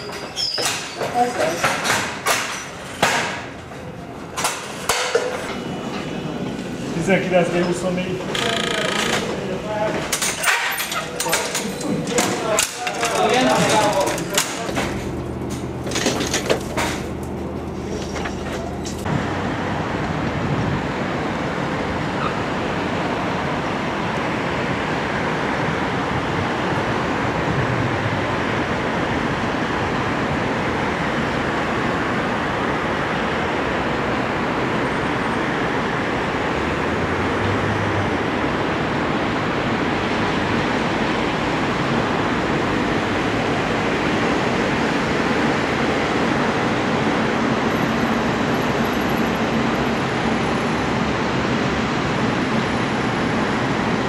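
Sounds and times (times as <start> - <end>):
distant rumble of trains: 0.0 - 10.2, 13.4 - 54.0
city traffic noise: 0.0 - 54.0.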